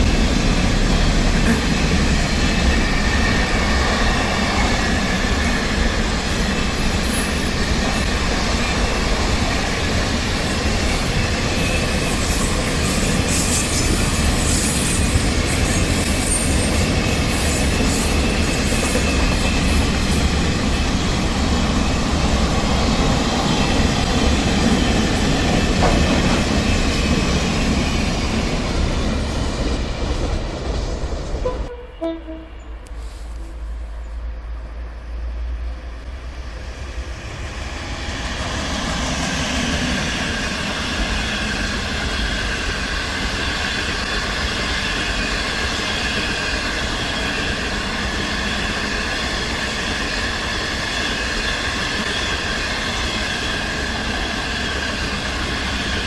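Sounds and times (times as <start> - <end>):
train rail and wheel noise: 0.0 - 56.0.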